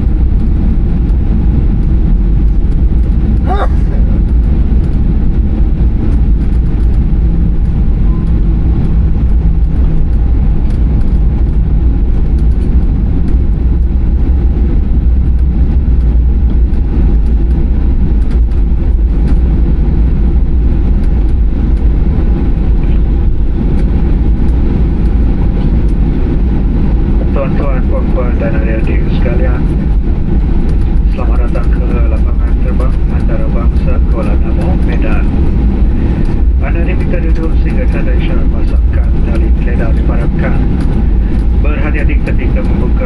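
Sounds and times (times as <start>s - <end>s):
aircraft cabin engine rumble: 0.0s - 43.0s.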